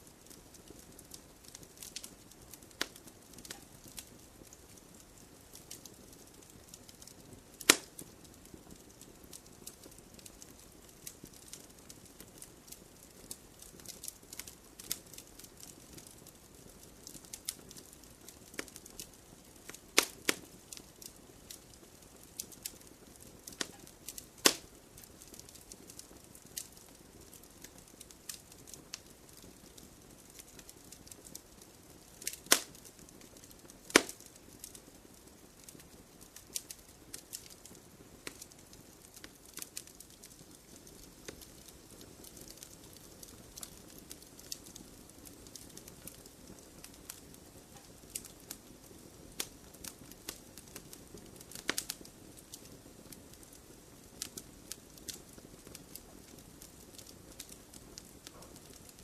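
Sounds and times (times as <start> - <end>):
campfire hissing and crackling: 0.0 - 59.0
fire popping: 0.0 - 59.0.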